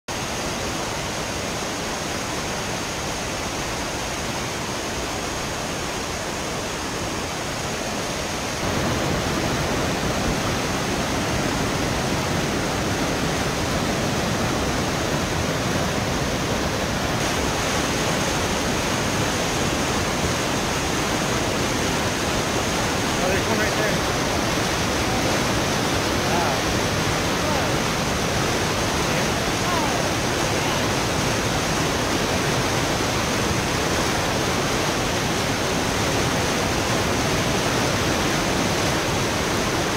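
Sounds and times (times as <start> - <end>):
river rapids rushing over boulders: 0.1 - 39.9.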